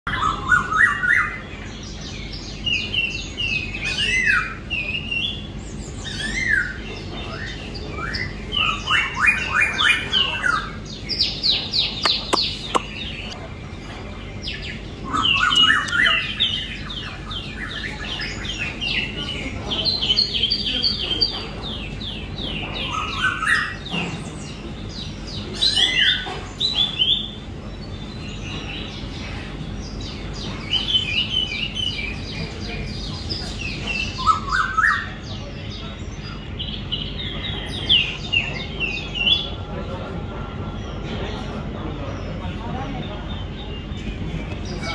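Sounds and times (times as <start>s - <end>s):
small birds chirping and trilling: 0.1s - 44.9s.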